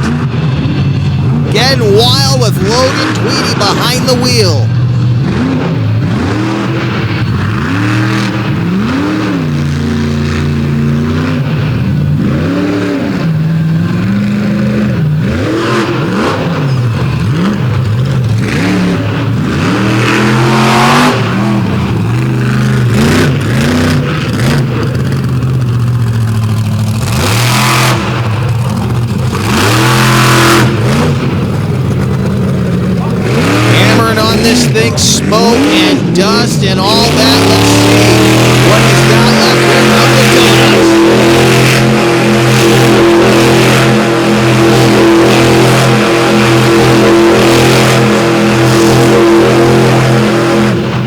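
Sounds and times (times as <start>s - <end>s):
truck engine revving: 0.0s - 51.0s.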